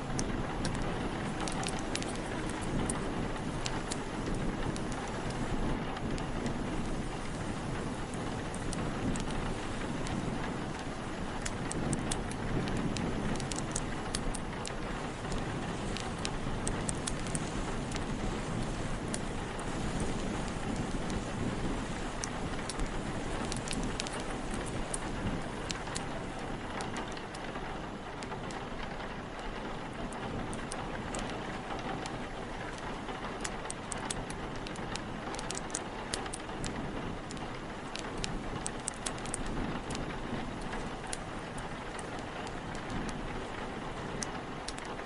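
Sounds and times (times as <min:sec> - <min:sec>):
low wind rumble: 0:00.0 - 0:45.0
steady rain: 0:00.0 - 0:45.0
wood fire crackling: 0:00.0 - 0:45.0.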